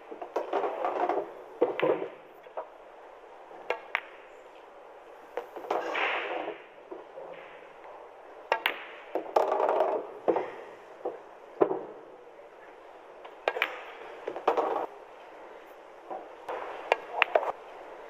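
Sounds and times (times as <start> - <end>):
pool balls clicking: 0.0 - 4.7, 5.3 - 12.0, 13.2 - 15.4, 16.0 - 17.9.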